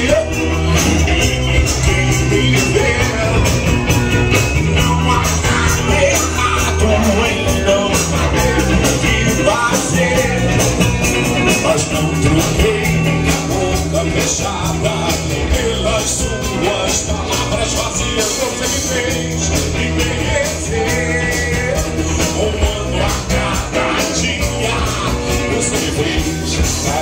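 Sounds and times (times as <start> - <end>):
bass guitar: 0.0 - 27.0
drums keeping steady beat: 0.0 - 27.0
electric guitar: 0.0 - 27.0.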